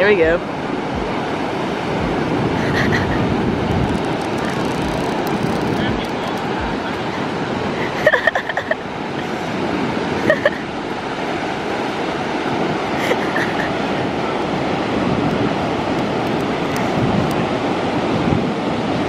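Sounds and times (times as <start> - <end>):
ocean surf rushing: 0.0 - 19.0.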